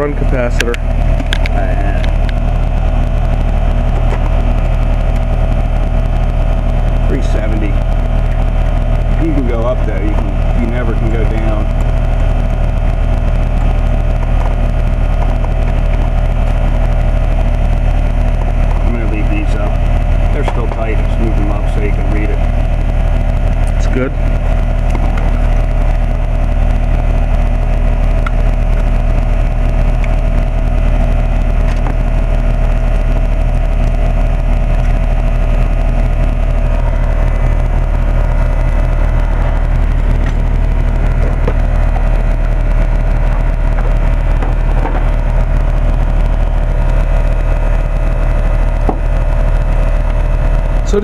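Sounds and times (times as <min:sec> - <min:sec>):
air conditioner unit humming: 0:00.0 - 0:51.0.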